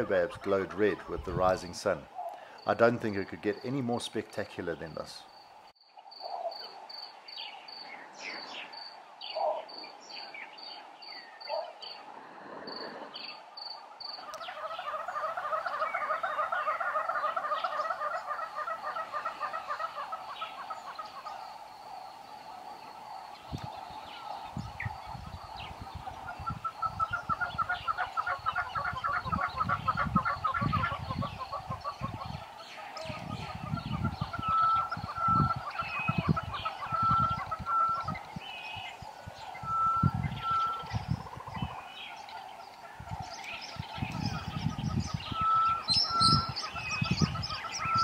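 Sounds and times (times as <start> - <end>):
guineafowl cackling: 0.0 - 2.8, 6.2 - 6.8, 9.2 - 10.3, 11.5 - 11.8, 12.6 - 48.0
bird calls: 0.0 - 48.0
chattering chorus of birds: 0.0 - 48.0
insect chirping: 0.0 - 48.0.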